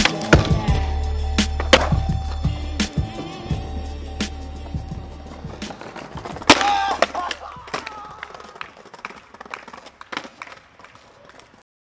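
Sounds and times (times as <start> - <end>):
skateboards tapping and clacking: 0.0 - 3.9, 4.6 - 11.6.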